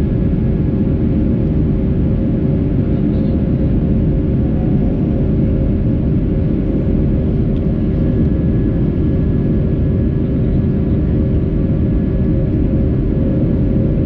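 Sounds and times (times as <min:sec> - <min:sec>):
faint engine tone hum: 0:00.0 - 0:14.0
jet engine cabin rumble: 0:00.0 - 0:14.0.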